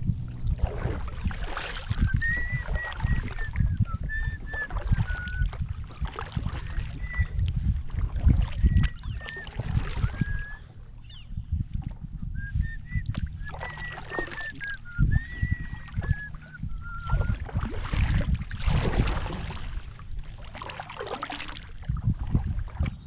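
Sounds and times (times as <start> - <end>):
paddle swishing and splashing: 0.0 - 10.9, 11.7 - 23.0
wind rumble on microphone: 0.0 - 23.0.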